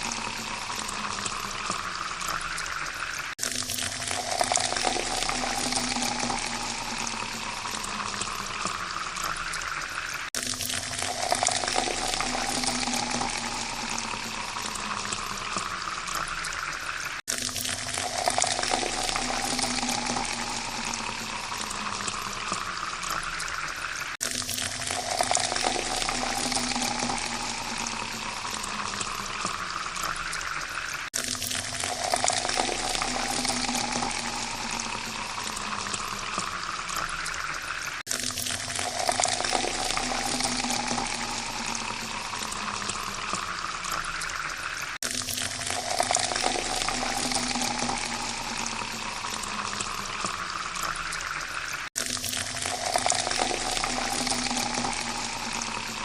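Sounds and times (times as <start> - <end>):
water pouring into a glass: 0.0 - 56.0.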